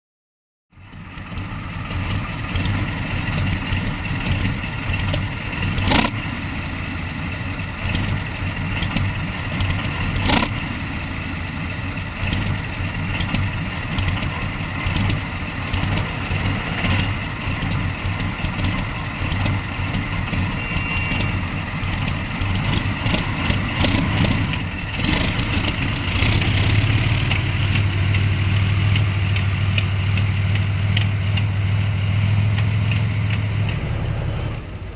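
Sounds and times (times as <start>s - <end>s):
tank diesel engine running: 0.7s - 34.9s.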